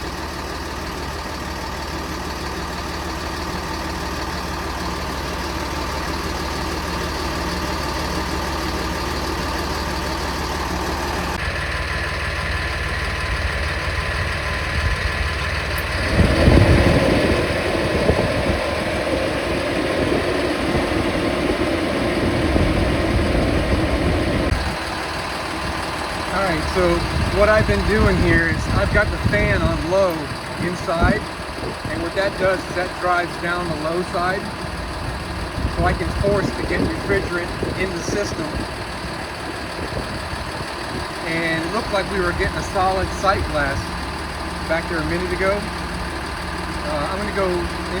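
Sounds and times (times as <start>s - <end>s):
bus engine idling: 0.0s - 48.0s.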